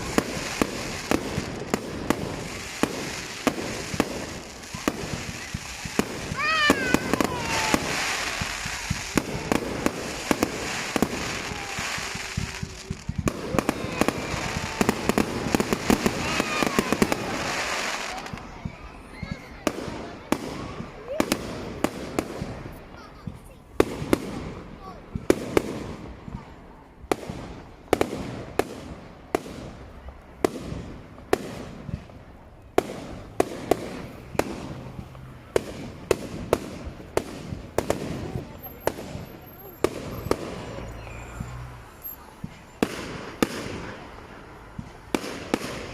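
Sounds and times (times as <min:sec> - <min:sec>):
fireworks crackle: 0:00.0 - 0:45.9
fireworks cracks and bangs: 0:00.0 - 0:45.9.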